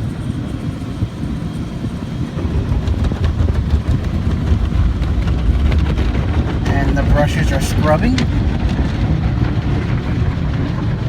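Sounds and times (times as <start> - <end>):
car wash brushes rumbling: 0.0 - 11.0.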